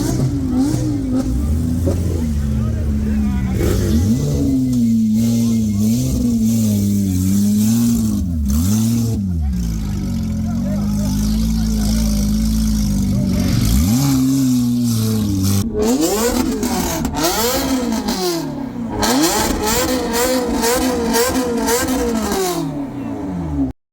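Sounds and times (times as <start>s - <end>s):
car engine revving: 0.0s - 23.8s.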